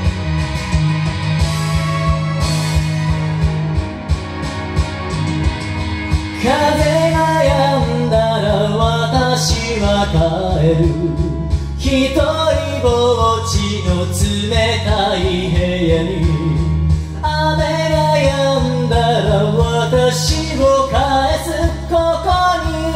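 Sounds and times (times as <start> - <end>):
karaoke backing track: 0.0 - 22.9
person singing a slow ballad: 1.4 - 22.9.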